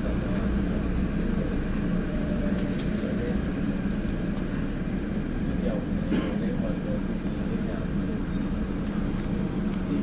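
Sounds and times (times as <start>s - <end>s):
train running gear rumble: 0.0s - 10.0s.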